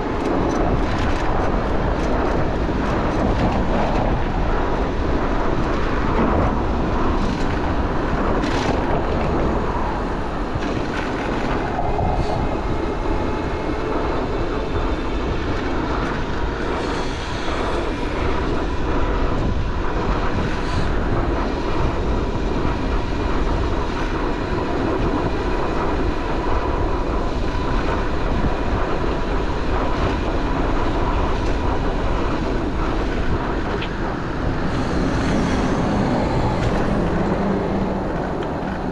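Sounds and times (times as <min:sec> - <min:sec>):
street traffic: 0:00.0 - 0:24.9, 0:30.6 - 0:38.9
wind on microphone: 0:00.0 - 0:38.9.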